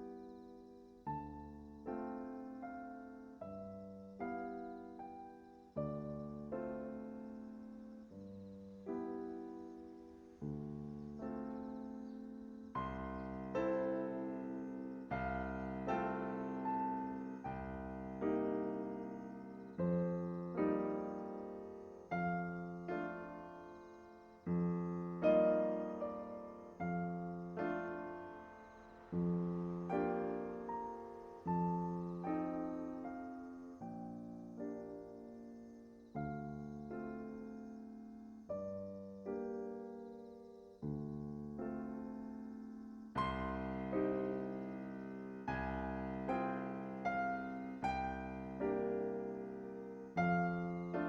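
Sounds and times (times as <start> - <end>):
slow soft piano chords: 0.0 - 51.0.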